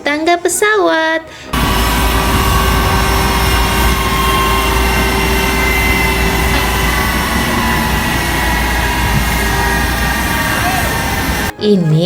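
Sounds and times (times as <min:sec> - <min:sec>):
jet engines whining: 0:01.5 - 0:11.5.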